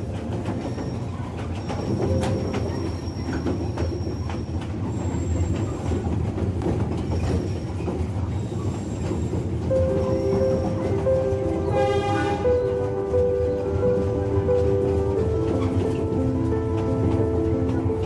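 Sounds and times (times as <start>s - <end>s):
rail joint clicks: 0.0s - 18.0s.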